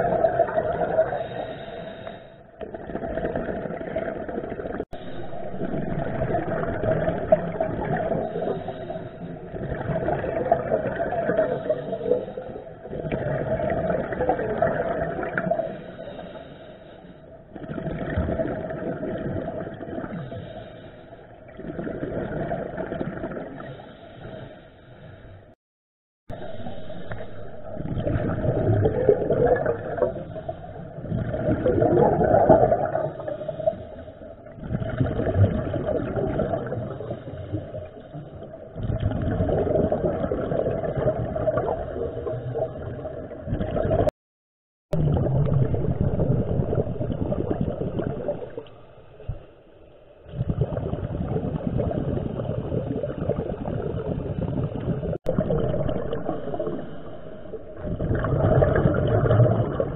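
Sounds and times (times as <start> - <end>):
regulator bubbles gurgling underwater: 0.0 - 25.6, 26.3 - 44.1, 44.9 - 59.9.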